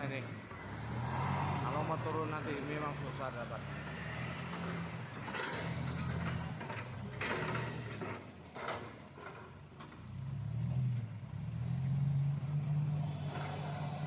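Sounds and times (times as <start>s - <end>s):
truck engine running: 1.7s - 14.0s.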